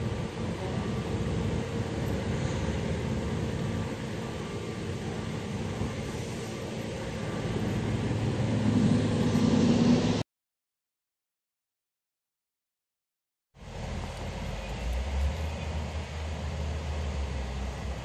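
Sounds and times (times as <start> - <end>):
low engine rumble: 0.0 - 10.2, 13.6 - 18.0.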